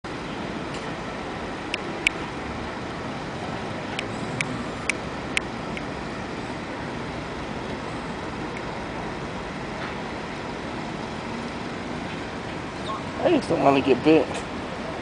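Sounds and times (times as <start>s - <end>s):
steady background noise: 0.1s - 15.0s.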